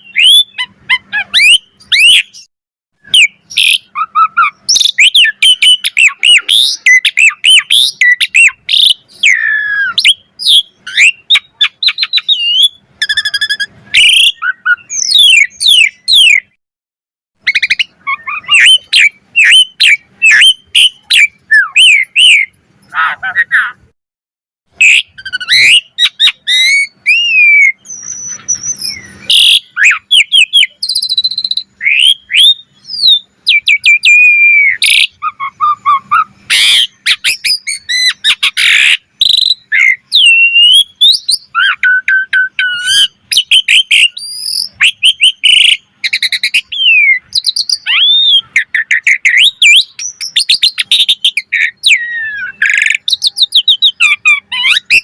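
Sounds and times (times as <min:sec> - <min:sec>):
starling singing: 0:00.0 - 0:16.6, 0:17.4 - 0:23.9, 0:24.7 - 0:55.0.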